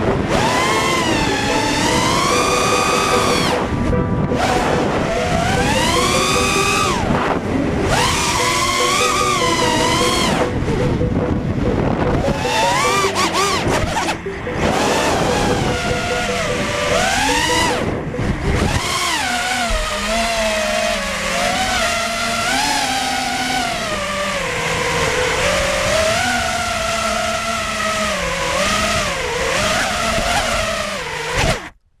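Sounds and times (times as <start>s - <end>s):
quadcopter motors whining: 0.0s - 31.8s.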